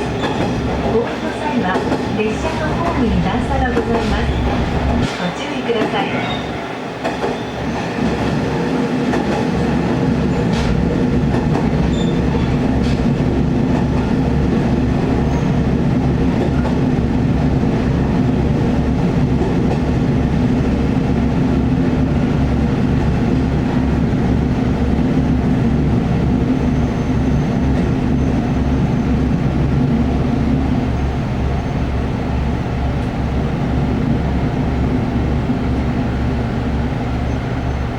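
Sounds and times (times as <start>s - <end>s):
railcar diesel engine throbbing: 0.0s - 37.9s.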